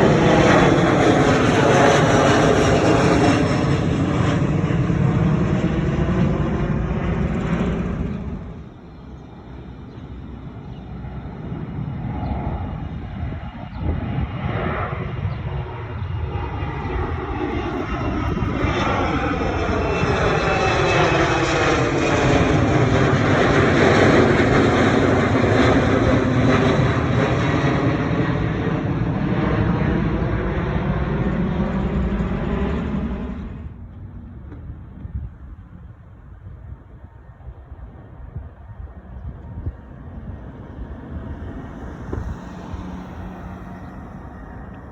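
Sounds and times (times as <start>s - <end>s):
aircraft passing whoosh: 0.0s - 37.0s, 37.6s - 44.9s
jet engine roar: 0.0s - 44.9s.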